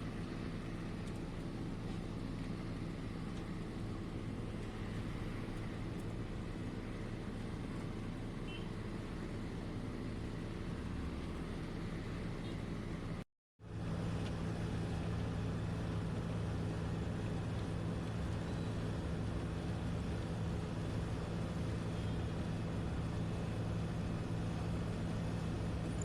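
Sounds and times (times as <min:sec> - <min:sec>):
diesel engine hum: 0:00.0 - 0:26.0.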